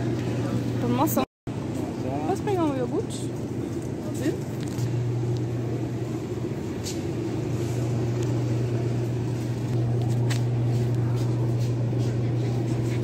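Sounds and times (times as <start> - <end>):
refrigerated display cases humming: 0.0 - 13.0.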